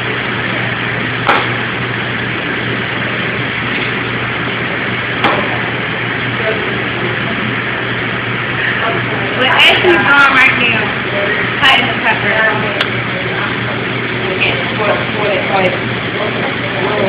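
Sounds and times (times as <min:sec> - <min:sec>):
background hum and hiss: 0:00.0 - 0:17.0.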